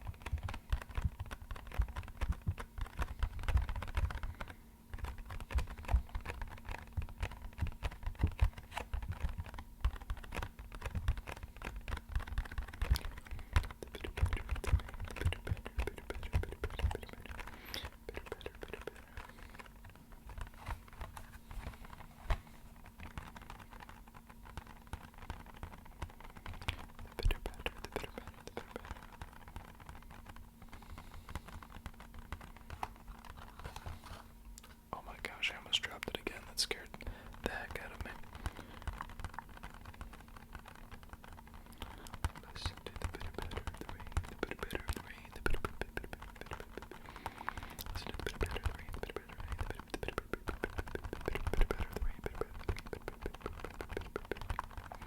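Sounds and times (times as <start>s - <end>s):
fingertips tapping on a box: 0.0s - 55.0s.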